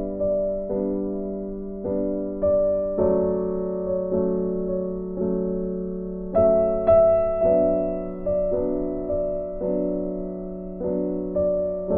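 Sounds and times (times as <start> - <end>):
keyboard chords: 0.0 - 11.9.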